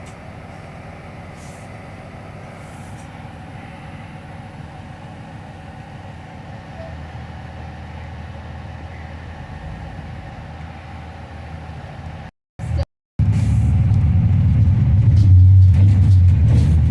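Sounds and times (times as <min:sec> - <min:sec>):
freight train rumbling past: 0:00.0 - 0:16.9.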